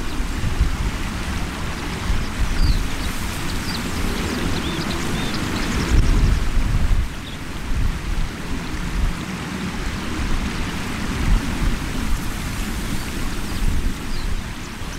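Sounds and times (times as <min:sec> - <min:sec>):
river water rushing over stones: 0:00.0 - 0:14.9
wind buffeting microphone: 0:00.0 - 0:14.9.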